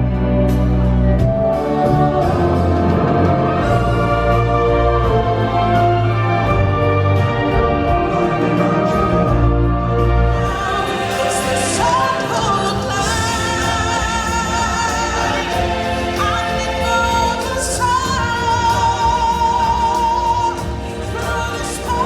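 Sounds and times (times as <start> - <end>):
backing track music: 0.0 - 22.0
choir voices: 1.5 - 22.0.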